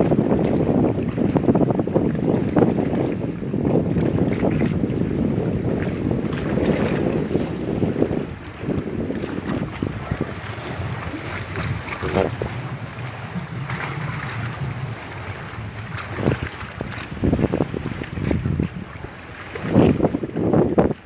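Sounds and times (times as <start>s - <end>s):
choppy lake water: 0.0s - 21.0s
wind buffeting microphone: 0.0s - 21.0s.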